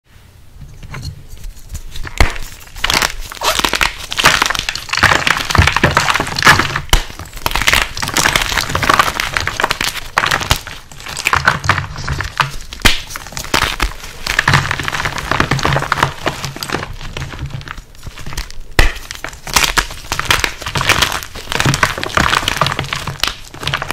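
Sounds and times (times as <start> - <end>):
chalk blocks crunching by hand: 1.8 - 23.9.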